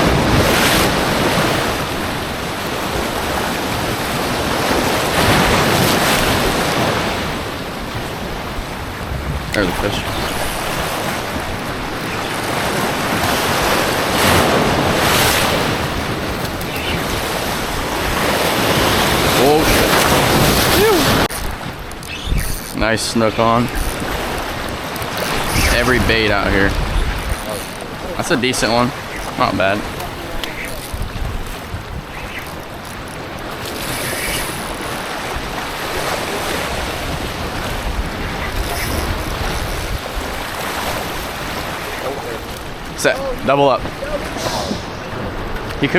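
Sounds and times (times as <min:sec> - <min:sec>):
waves washing on shore: 0:00.0 - 0:45.9
wind buffeting microphone: 0:00.0 - 0:45.9.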